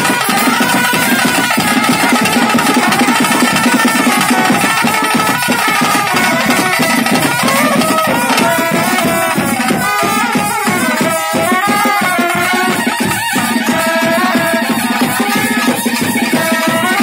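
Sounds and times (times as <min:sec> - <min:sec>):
fast drumming: 0:00.0 - 0:17.0
wavering high melody: 0:00.0 - 0:17.0.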